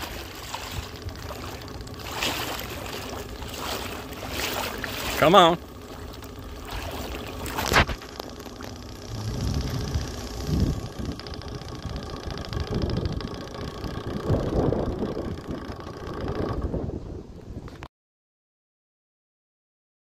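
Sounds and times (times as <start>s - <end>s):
wind rumble on microphone: 0.0s - 5.2s, 5.9s - 17.9s
small engine buzzing: 0.0s - 17.9s.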